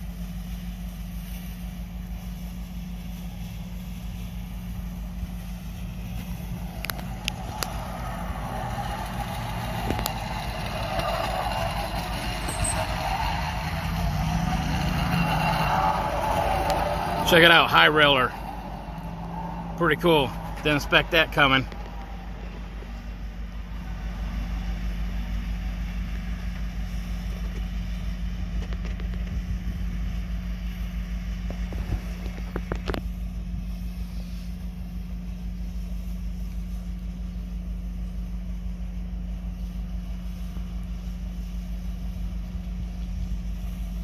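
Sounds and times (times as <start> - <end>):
diesel locomotive rumble: 0.0 - 44.0.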